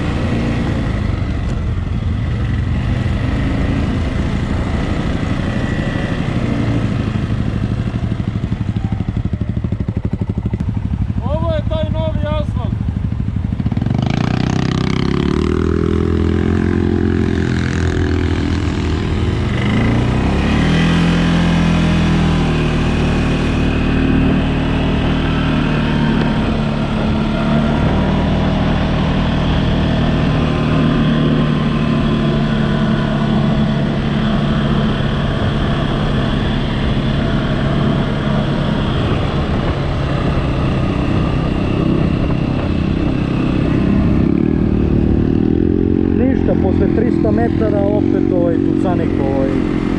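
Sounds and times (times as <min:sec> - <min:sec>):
atv engine revving: 0:00.0 - 0:49.9.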